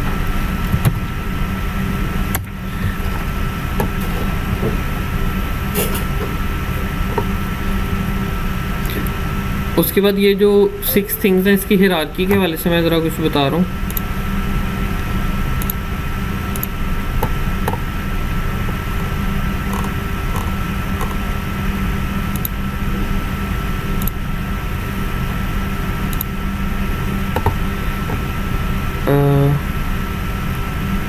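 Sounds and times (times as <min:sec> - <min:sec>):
background hum and hiss: 0:00.0 - 0:31.0
faint constant whine: 0:00.0 - 0:31.0.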